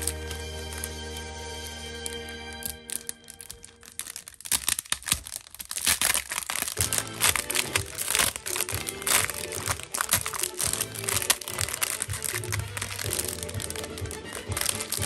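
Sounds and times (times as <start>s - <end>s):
background music: 0.0s - 4.2s, 6.6s - 15.0s
plastic packaging crinkling: 0.0s - 15.0s.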